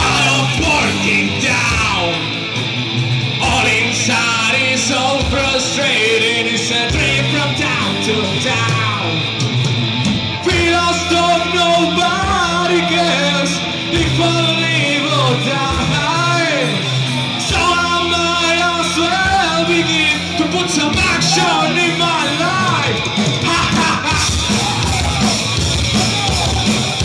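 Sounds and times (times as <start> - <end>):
man singing: 0.0 - 2.4, 3.4 - 9.3, 10.4 - 25.4
heavy metal band playing: 0.0 - 27.0.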